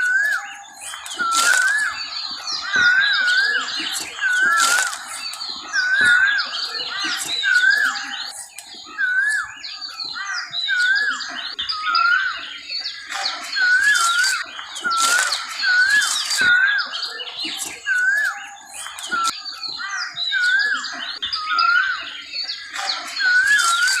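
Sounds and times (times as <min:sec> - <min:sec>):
bird whistling wavy note: 0:00.0 - 0:24.0
birds chirping: 0:00.0 - 0:24.0.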